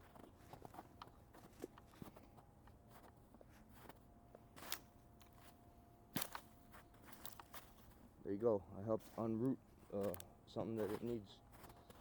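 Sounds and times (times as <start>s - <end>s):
crunches on forest floor: 0.0s - 8.1s, 8.8s - 12.0s.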